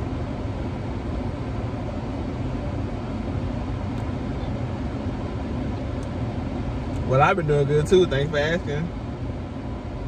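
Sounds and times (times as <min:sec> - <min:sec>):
vehicle running rumble: 0:00.0 - 0:10.0.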